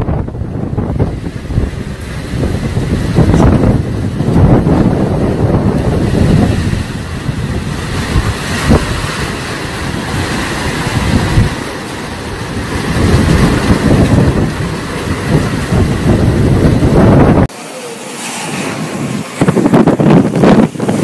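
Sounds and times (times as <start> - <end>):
storm wind buffeting microphone: 0.0 - 17.6, 18.3 - 21.0.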